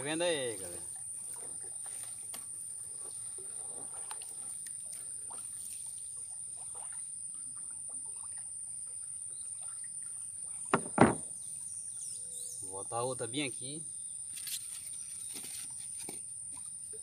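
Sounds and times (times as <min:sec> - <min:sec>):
water trickling and splashing: 0:00.0 - 0:13.5, 0:14.2 - 0:17.0.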